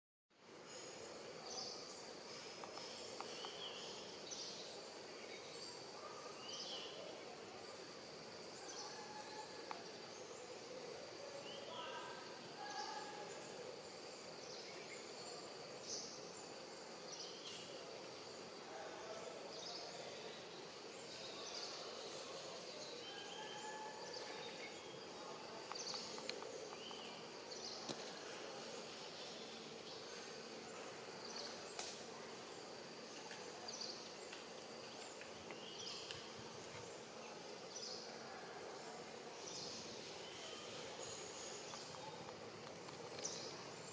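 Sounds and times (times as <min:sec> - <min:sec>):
faint hum of insects: 0:00.4 - 0:43.9.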